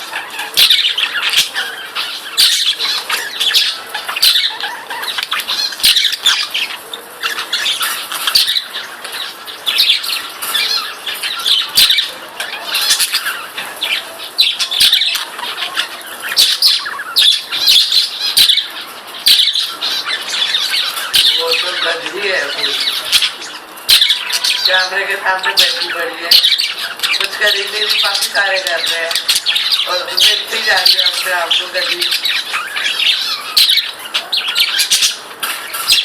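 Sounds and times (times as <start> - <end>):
budgerigars chattering and squawking: 0.0 - 36.0.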